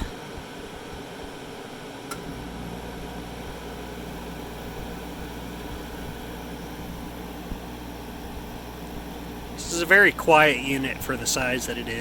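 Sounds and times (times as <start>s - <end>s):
air conditioner compressor hum: 0.0s - 12.0s.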